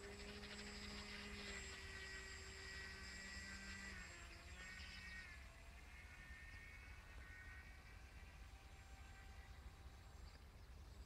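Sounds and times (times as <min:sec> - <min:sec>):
distant model aircraft motor whine: 0:00.0 - 0:11.0.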